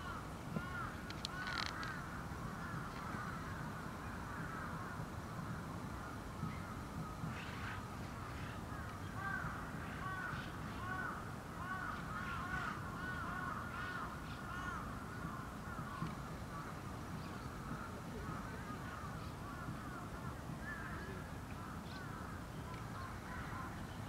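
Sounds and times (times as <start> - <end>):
flock of birds calling: 0.0 - 24.0.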